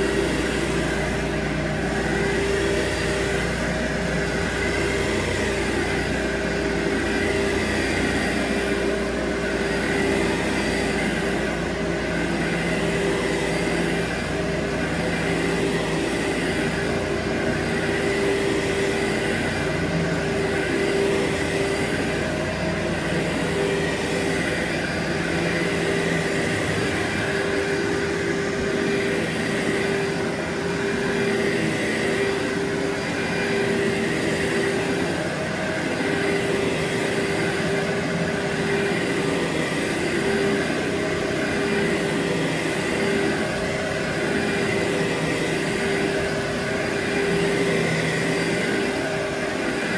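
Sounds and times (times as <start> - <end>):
carpet cleaning machine humming: 0.0 - 49.9.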